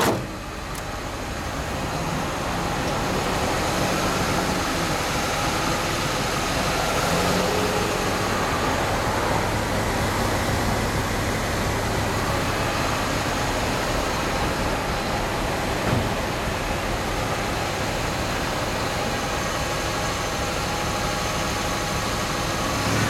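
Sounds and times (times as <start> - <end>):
rumble of street traffic: 0.0 - 23.0.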